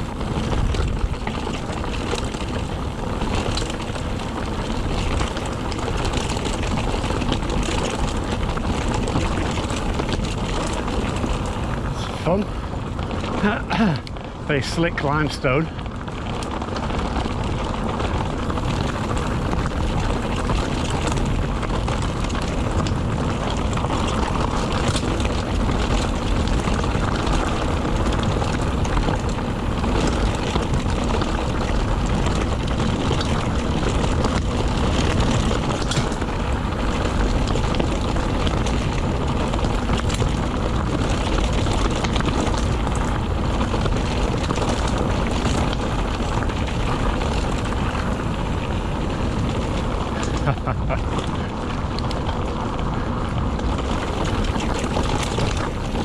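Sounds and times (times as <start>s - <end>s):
bike rattling over rough rock: 0.0s - 56.0s
wind rushing over microphone: 0.0s - 56.0s.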